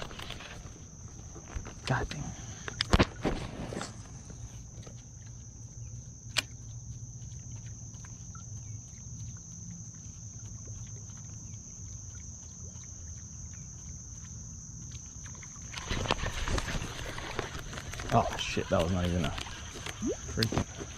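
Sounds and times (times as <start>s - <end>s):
insects chorus: 0.0s - 20.9s.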